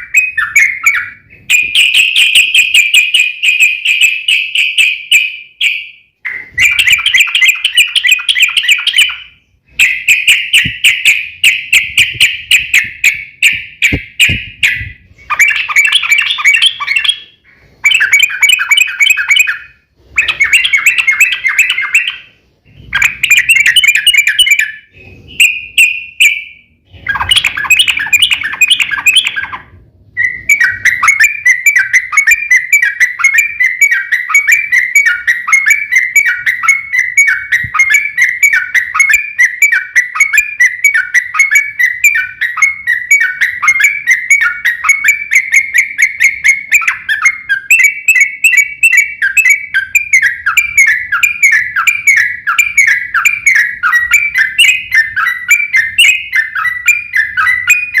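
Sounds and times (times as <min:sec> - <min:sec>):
bird singing rapid chirps: 0:00.0 - 0:58.0.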